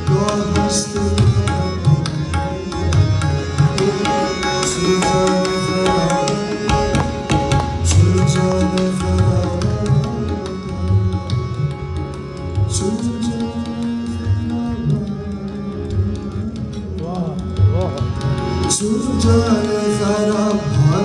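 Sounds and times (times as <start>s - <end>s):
harmonium and keyboard tones: 0.0s - 21.0s
tabla drums: 0.0s - 21.0s.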